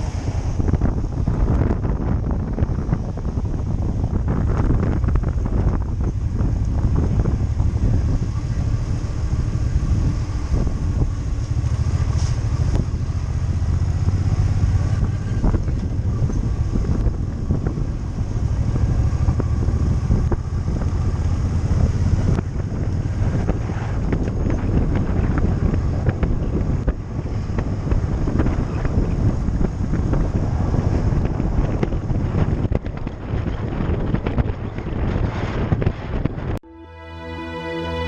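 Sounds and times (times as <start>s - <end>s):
wind buffeting microphone: 0.0s - 36.6s
motorcycle engine running: 0.7s - 35.1s.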